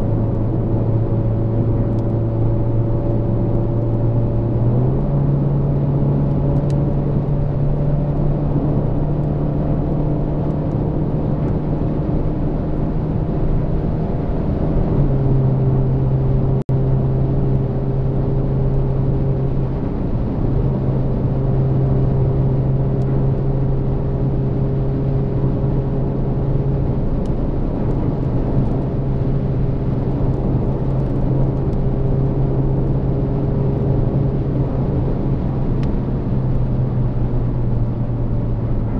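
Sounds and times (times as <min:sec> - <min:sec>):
car engine drone: 0:00.0 - 0:38.9.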